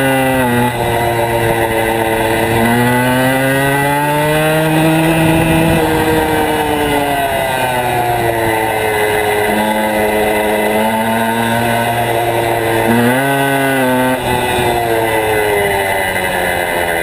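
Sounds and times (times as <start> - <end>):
motorcycle engine running hard: 0.0 - 17.0.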